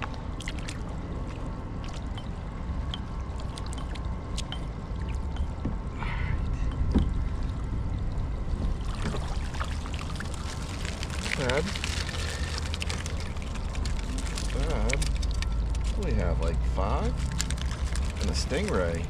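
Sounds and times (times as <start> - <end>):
water pouring and splashing: 0.0 - 5.6, 7.2 - 16.1, 17.0 - 19.0
steady low rumble: 0.0 - 19.0.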